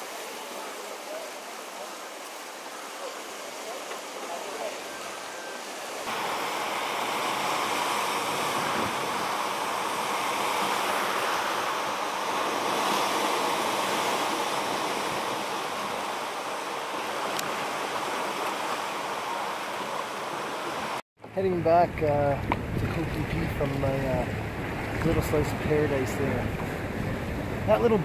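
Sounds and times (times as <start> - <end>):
small waves washing onto beach: 0.0 - 21.0, 22.3 - 28.0.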